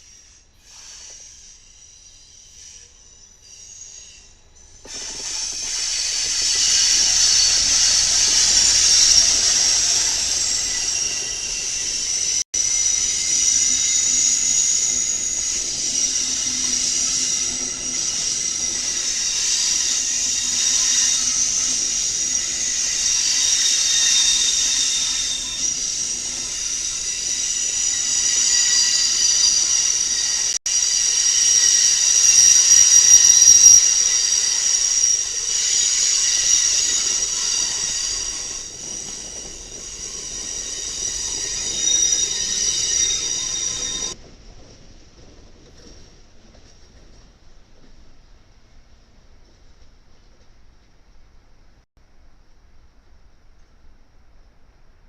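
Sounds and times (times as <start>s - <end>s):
train wheels screeching: 0.0s - 47.9s
hiss of rolling train: 0.0s - 51.8s.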